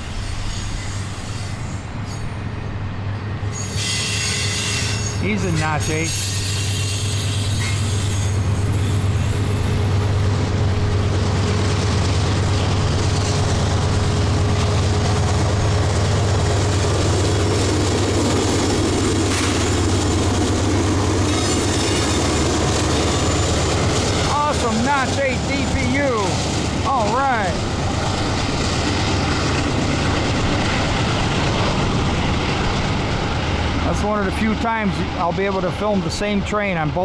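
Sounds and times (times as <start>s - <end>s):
diesel locomotive engine drone: 0.0s - 37.0s.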